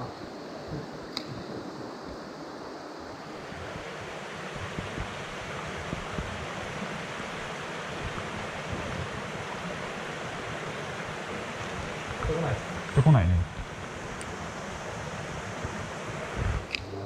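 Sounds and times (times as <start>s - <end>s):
mountain stream rushing: 0.0s - 16.9s.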